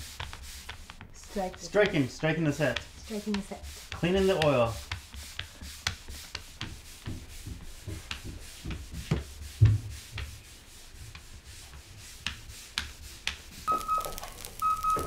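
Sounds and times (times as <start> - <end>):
mop swishing on wooden floor: 0.0 - 15.0.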